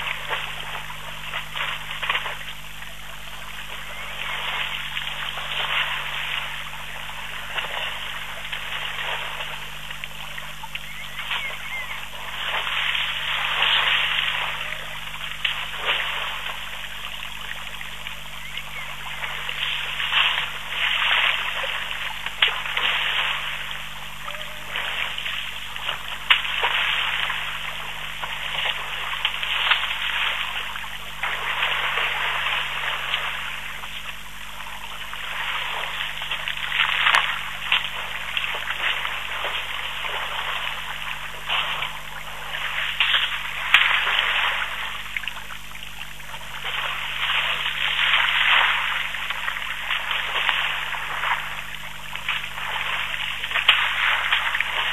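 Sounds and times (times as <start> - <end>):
elephants splashing water: 0.0 - 54.9
faint steady hum: 0.0 - 54.9
sharp splashes: 0.0 - 54.9.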